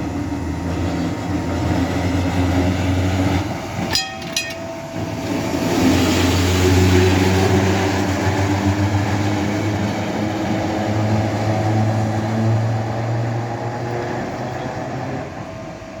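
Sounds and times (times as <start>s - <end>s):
railcar drive hum: 0.0s - 16.0s.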